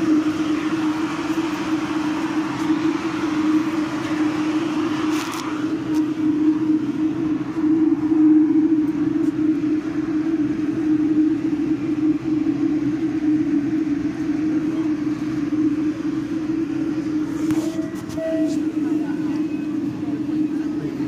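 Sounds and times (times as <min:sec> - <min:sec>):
low hum: 0:00.0 - 0:21.0
subway train rumbling: 0:00.0 - 0:21.0.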